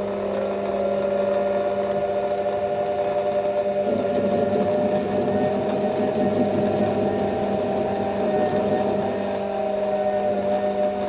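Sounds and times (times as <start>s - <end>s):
lathe motor whine: 0.1s - 11.0s.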